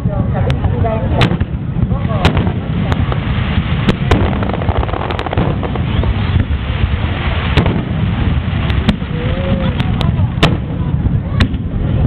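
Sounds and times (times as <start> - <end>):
continuous low rumble: 0.0 - 12.0
fireworks bangs: 0.2 - 12.0.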